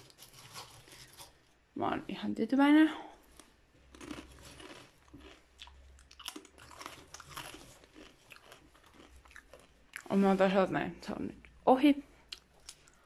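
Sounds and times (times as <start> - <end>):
faint crunching and crackling: 0.0 - 1.8, 2.9 - 13.0.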